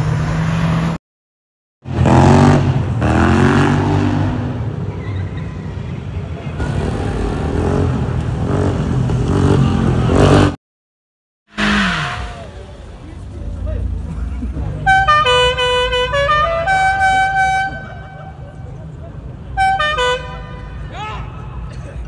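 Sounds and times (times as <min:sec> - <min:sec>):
car engines revving: 0:00.0 - 0:01.0, 0:01.8 - 0:10.6, 0:11.5 - 0:22.0
motorcycle engines revving: 0:01.9 - 0:10.6, 0:11.5 - 0:22.0.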